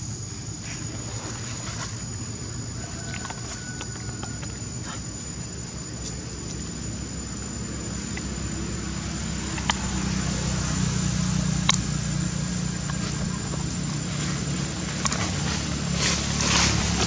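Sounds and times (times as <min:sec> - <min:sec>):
high-pitched whine: 0:00.0 - 0:17.0
low motor hum: 0:00.0 - 0:17.0.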